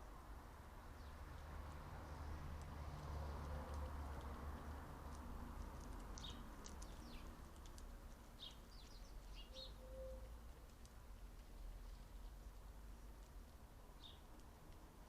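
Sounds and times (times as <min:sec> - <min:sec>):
faint low outdoor hum: 0:00.0 - 0:15.0
small songbirds chirping: 0:00.8 - 0:05.2, 0:05.8 - 0:15.0.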